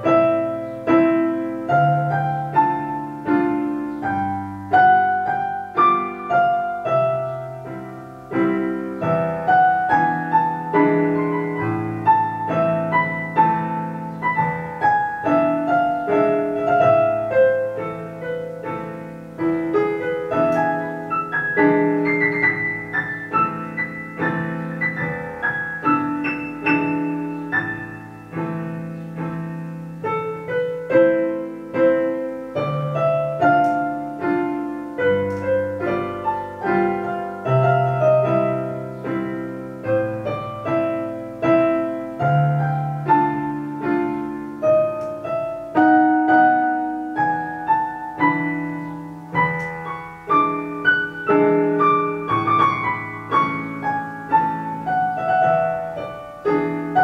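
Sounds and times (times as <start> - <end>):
classical piano piece: 0.0 - 57.0.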